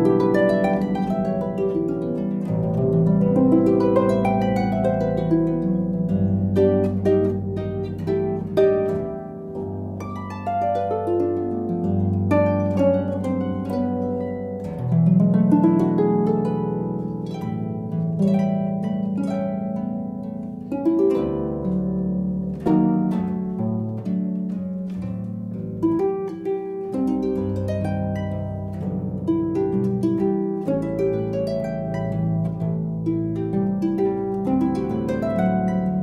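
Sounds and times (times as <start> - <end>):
plucked string background music: 0.0 - 36.0.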